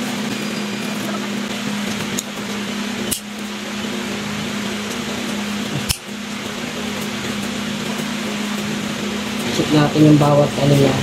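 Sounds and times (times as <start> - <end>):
fan-like hum: 0.0 - 11.0.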